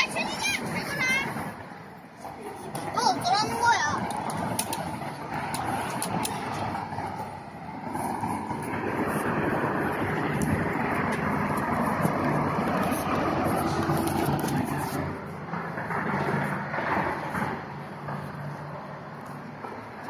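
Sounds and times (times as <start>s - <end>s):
freeway traffic noise: 0.0s - 20.0s.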